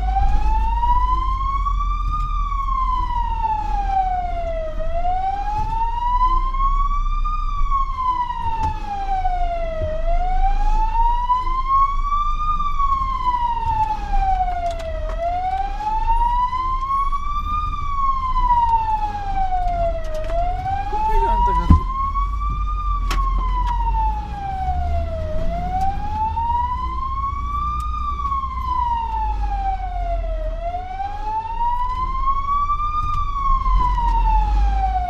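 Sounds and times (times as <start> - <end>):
fire engine wail siren: 0.0 - 35.0
truck engine and road rumble: 0.0 - 35.0.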